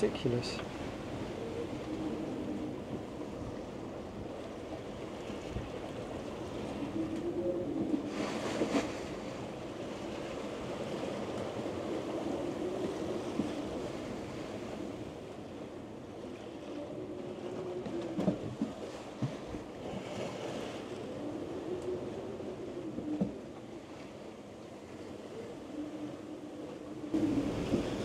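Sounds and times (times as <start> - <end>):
water rushing along hull: 0.0 - 28.0.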